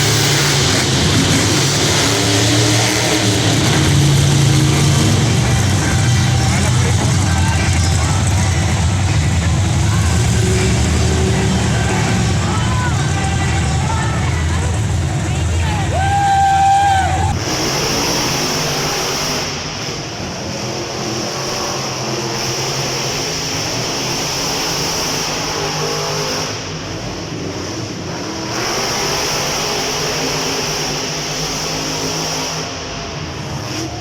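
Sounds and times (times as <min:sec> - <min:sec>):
monster truck engines revving: 0:00.0 - 0:34.0.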